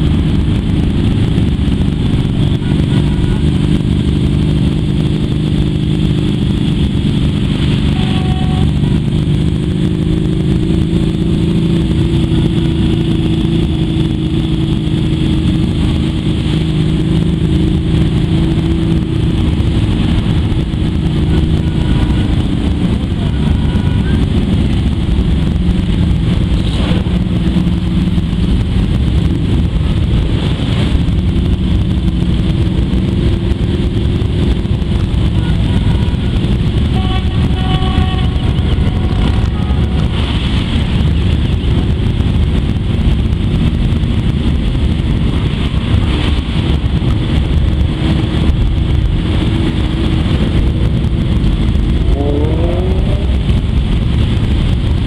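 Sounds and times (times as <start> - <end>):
motorcycle engine revving: 0.0 - 55.0
motorcycle engines running: 0.0 - 55.0.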